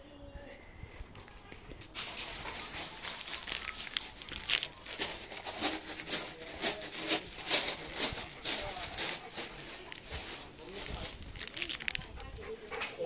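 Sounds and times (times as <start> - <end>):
footsteps on gravel: 1.3 - 12.4.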